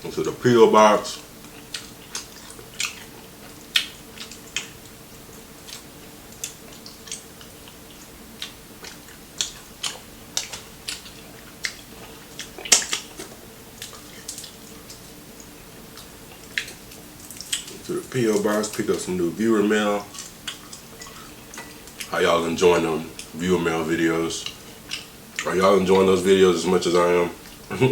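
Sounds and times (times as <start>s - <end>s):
chewing crispy fried chicken: 1.1s - 22.2s, 24.4s - 26.0s.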